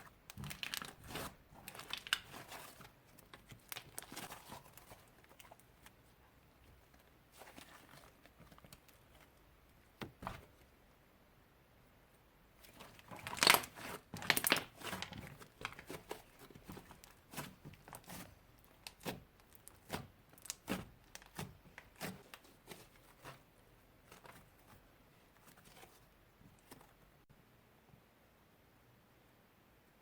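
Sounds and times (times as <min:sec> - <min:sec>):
slime squishing by hand: 0:00.0 - 0:10.8, 0:12.5 - 0:27.2.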